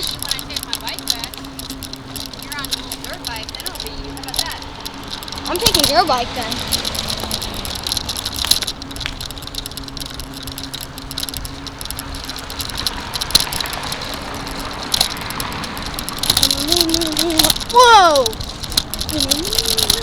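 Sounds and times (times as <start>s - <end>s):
bicycle clicks: 0.0s - 20.0s
bicycle tyre and wind noise: 0.0s - 20.0s
light rattling: 0.0s - 20.0s.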